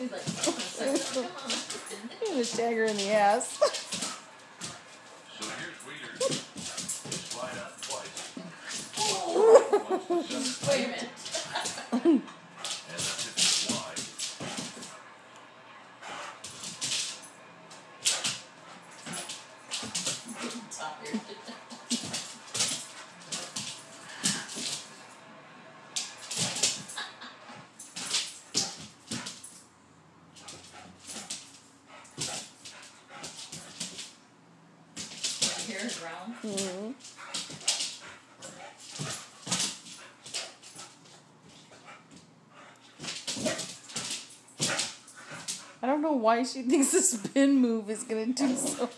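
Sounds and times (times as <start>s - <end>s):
dog paws scrabbling on wood floor: 0.0s - 15.1s, 16.0s - 25.2s, 26.0s - 29.7s, 30.3s - 34.2s, 34.9s - 48.9s.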